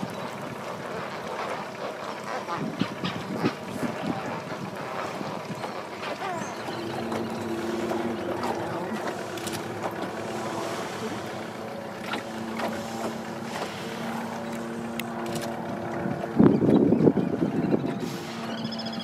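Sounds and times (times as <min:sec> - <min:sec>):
boat motor droning: 0:00.0 - 0:19.0
water noise: 0:00.0 - 0:19.0
wind: 0:00.0 - 0:19.0.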